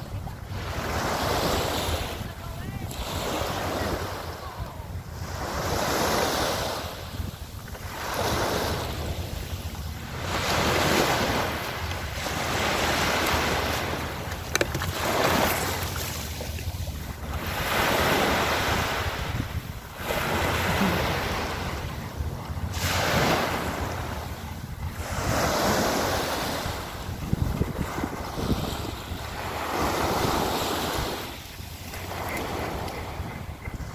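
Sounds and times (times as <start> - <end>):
waves washing onto sandy shore: 0.0 - 33.9
wind buffeting microphone: 0.0 - 33.9.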